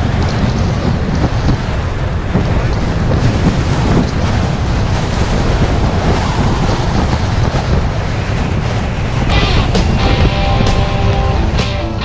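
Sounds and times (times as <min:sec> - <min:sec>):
water rushing along hulls: 0:00.0 - 0:12.0
wind buffeting microphone: 0:00.0 - 0:12.0.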